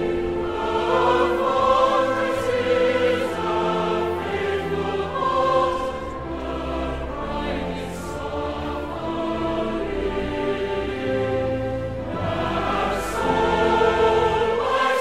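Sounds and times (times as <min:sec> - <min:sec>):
choir singing long held notes: 0:00.0 - 0:15.0.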